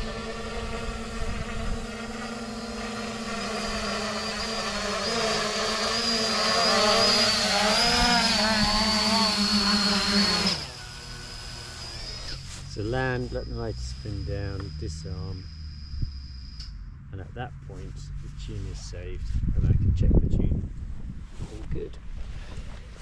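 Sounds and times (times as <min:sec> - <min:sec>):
drone motors humming: 0:00.0 - 0:19.5.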